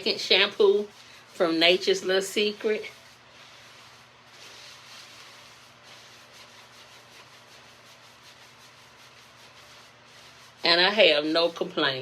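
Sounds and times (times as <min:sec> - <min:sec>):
hands rubbing wet hair: 0:00.0 - 0:11.6
low steady hum: 0:00.0 - 0:12.0.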